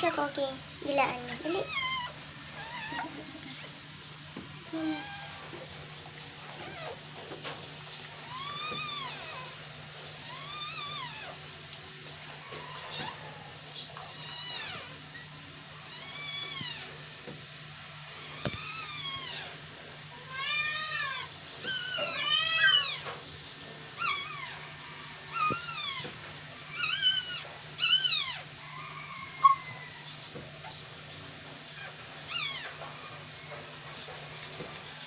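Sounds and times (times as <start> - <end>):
puppies crying: 1.2 - 17.3, 17.9 - 23.2, 23.8 - 35.0.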